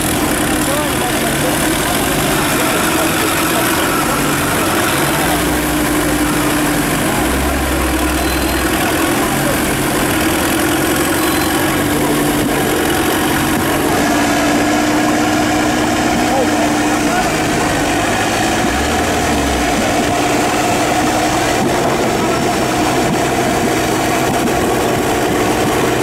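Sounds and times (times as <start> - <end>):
engines idling: 0.0 - 26.0.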